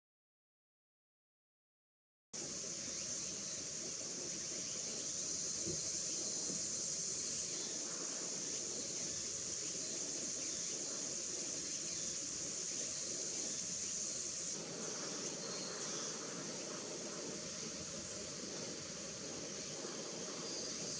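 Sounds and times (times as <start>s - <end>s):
insect chorus drone: 2.4s - 20.9s.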